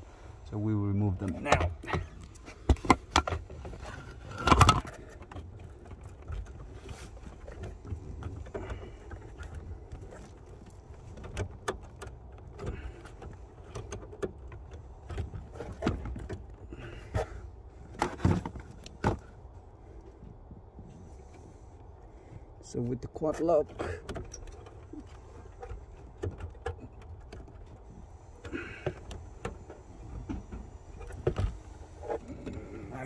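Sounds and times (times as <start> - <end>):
rustling of hands working: 0.0 - 33.0.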